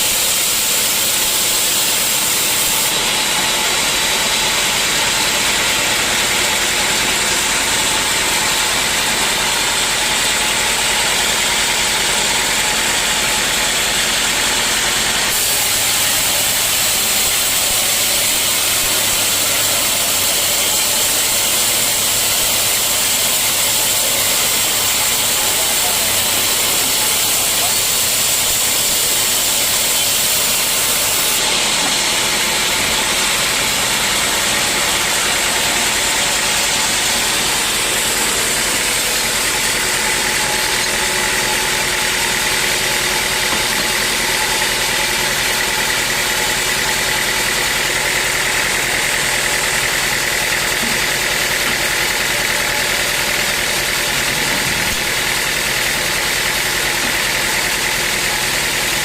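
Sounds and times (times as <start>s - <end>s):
sawmill machinery rushing: 0.0s - 59.0s.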